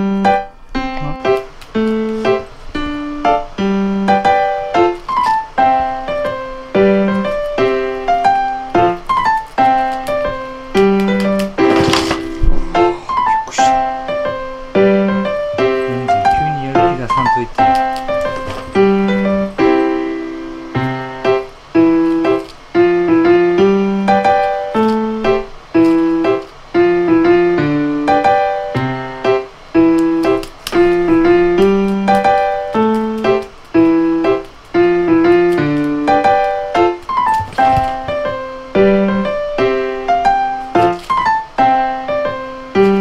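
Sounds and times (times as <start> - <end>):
piano melody: 0.0 - 43.0.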